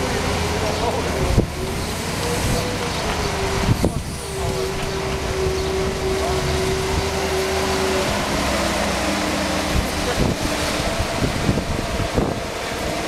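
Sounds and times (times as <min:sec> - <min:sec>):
lift engine whining: 0:00.0 - 0:13.0.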